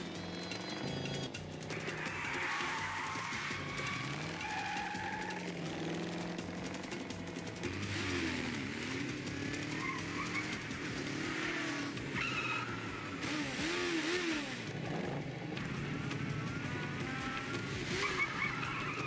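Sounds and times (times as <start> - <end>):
car engine revving: 0.0 - 19.0
motorcycle engine revving: 0.0 - 19.0
tire squeals: 0.0 - 19.0.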